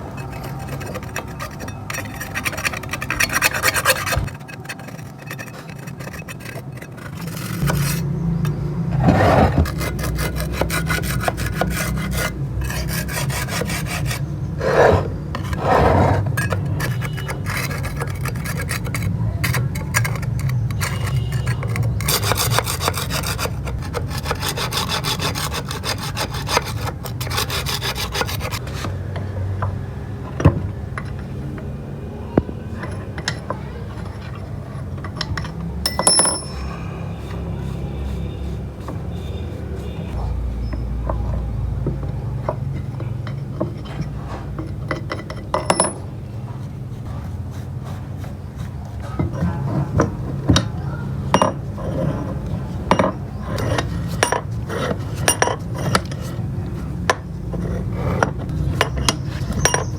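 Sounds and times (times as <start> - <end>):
scraping rusty steel: 0.0 - 59.9.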